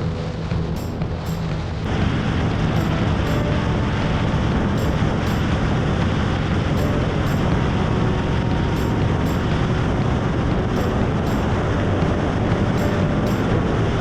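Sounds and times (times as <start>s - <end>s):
motorcycle engine rumble: 0.0s - 14.0s
wind rush on microphone: 0.0s - 14.0s.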